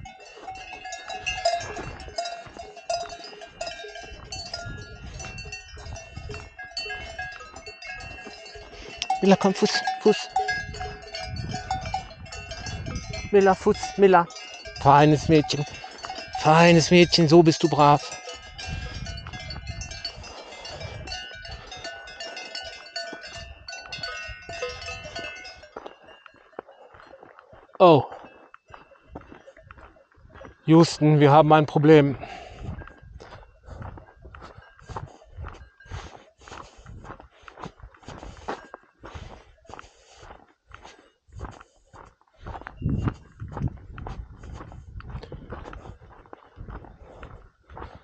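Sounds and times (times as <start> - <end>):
cowbells clanking: 0.0 - 37.1, 38.0 - 39.8.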